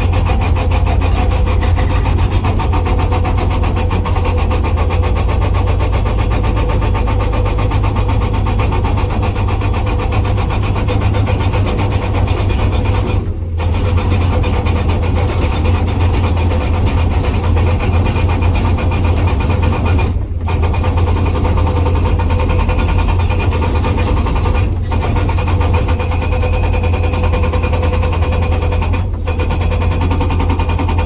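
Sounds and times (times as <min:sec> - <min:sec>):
excavator engine running: 0:00.0 - 0:31.0
hydraulic breaker hammering rock: 0:00.0 - 0:31.0.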